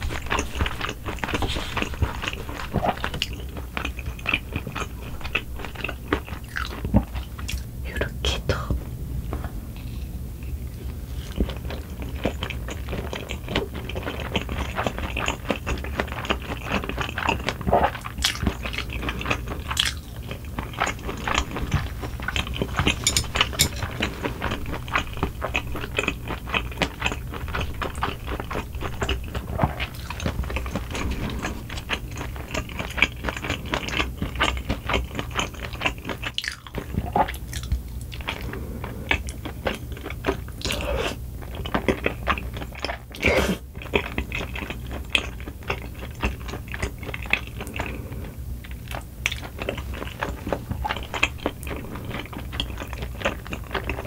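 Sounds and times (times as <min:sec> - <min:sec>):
crunchy chewing: 0:00.0 - 0:07.7, 0:09.3 - 0:54.0.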